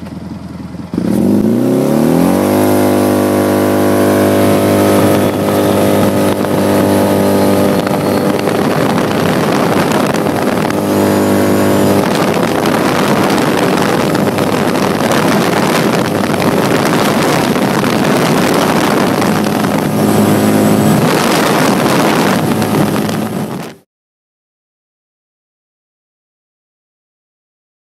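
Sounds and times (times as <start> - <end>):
loud twin-cylinder engine running: 0.0 - 23.8.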